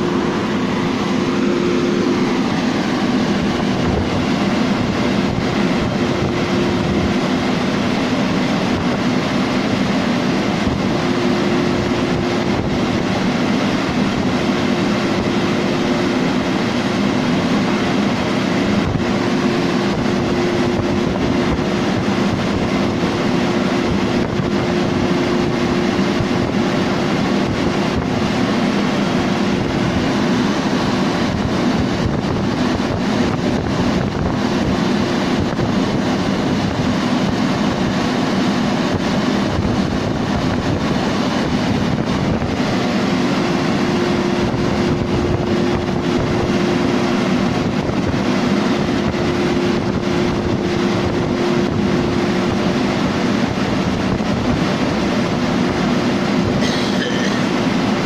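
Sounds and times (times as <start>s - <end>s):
rotating brushes humming: 0.0s - 58.0s.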